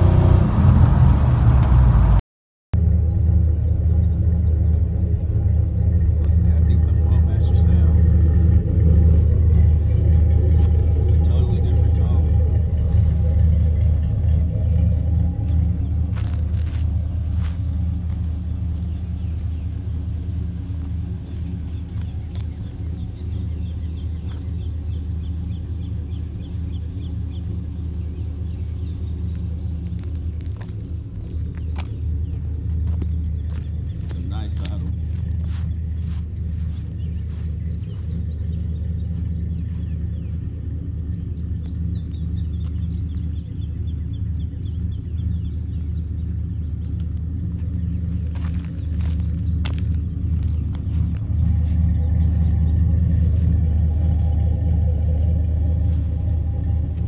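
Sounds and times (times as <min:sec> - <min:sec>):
faint high whine: 0:02.8 - 0:57.0
truck engine idling: 0:02.8 - 0:57.0
bird chirping: 0:03.0 - 0:57.0.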